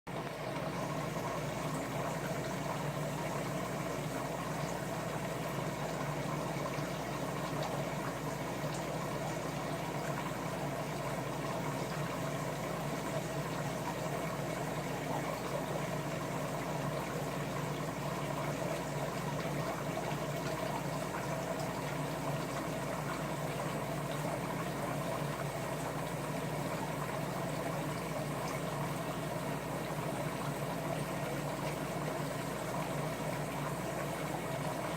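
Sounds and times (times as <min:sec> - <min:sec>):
aquarium water bubbling: 0:00.1 - 0:34.9
low pump hum: 0:00.1 - 0:34.9.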